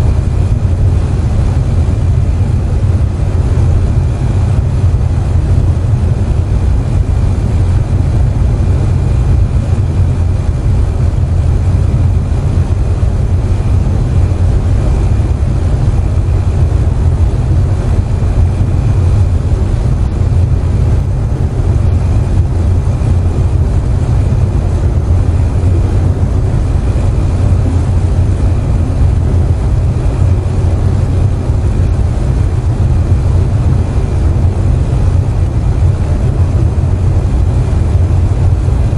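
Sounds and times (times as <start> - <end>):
air conditioner humming: 0.0 - 38.9.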